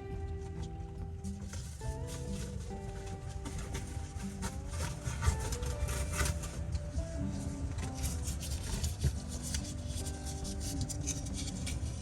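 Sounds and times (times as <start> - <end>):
background music with held notes: 0.0 - 12.0
light scraping and tapping: 0.0 - 12.0.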